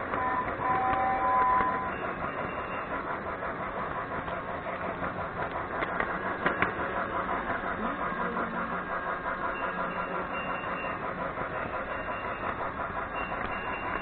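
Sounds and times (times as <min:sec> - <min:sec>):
toy train motor and wheels: 0:00.0 - 0:14.0.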